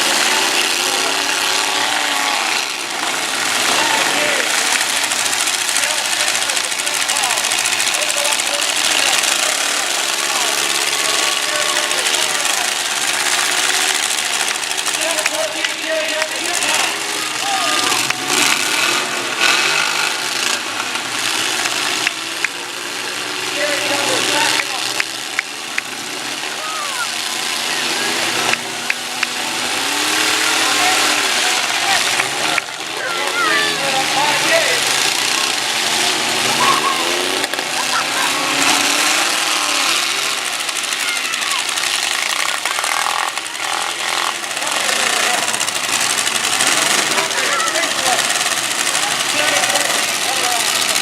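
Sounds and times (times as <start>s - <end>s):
engines racing: 0.0s - 51.0s.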